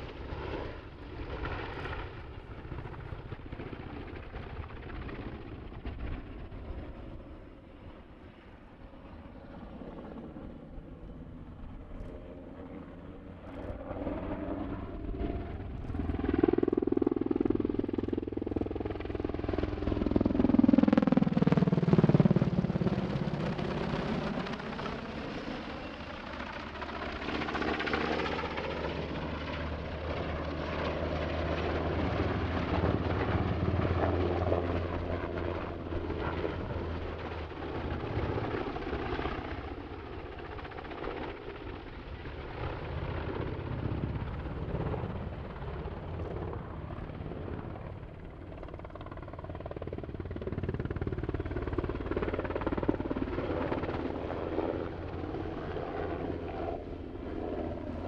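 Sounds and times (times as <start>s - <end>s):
helicopter rotor and turbine noise: 0.0s - 58.0s.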